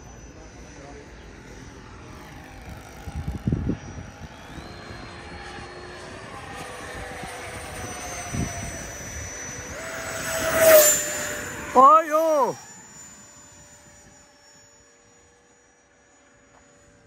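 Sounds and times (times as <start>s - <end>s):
electric ducted fans whining: 0.0s - 17.0s.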